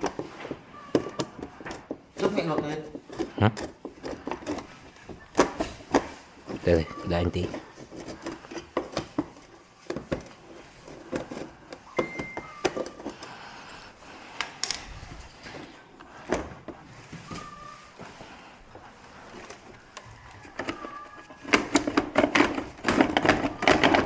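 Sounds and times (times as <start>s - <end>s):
hands and tools clicking: 0.0s - 24.0s.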